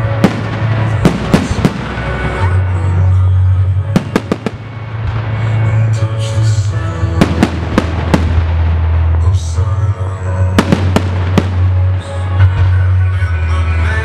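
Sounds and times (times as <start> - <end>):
loud music with heavy bass: 0.0 - 14.0.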